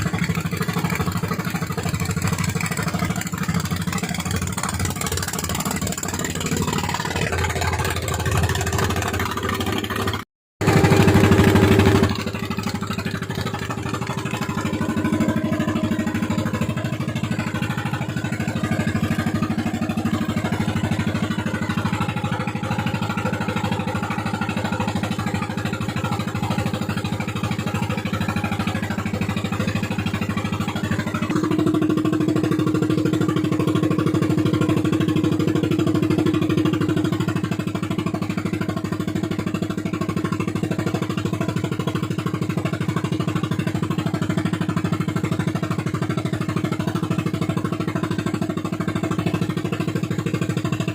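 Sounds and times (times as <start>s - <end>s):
boat engine running hard: 0.0s - 50.9s.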